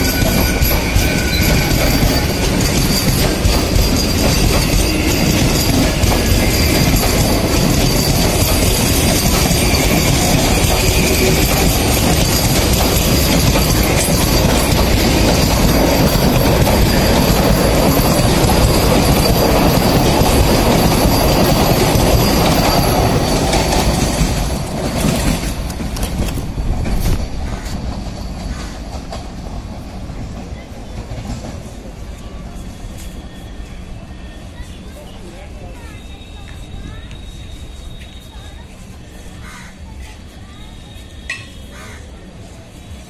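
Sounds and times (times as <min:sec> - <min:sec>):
high whine of train: 0:00.0 - 0:43.0
train wheels rumbling on track: 0:00.0 - 0:43.0.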